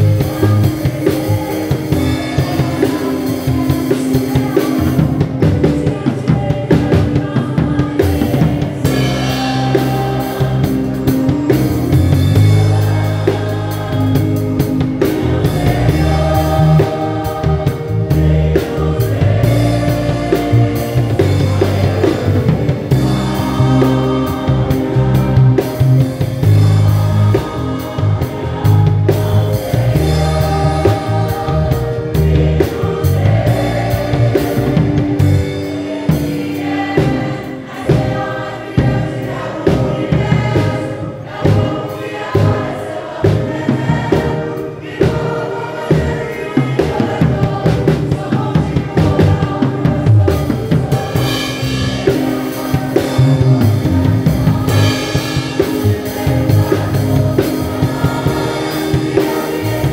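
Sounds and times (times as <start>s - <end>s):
acoustic drum kit played with sticks: 0.0s - 59.9s
gospel worship song with singing: 0.0s - 59.9s.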